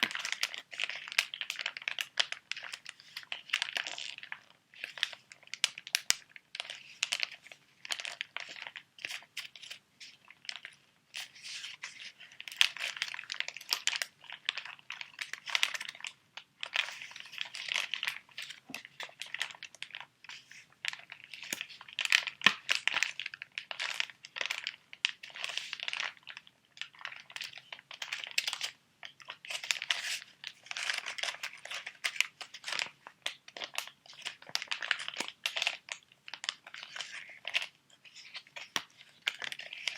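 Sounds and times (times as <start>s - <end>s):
plastic and foil packets crinkling: 0.0s - 39.9s.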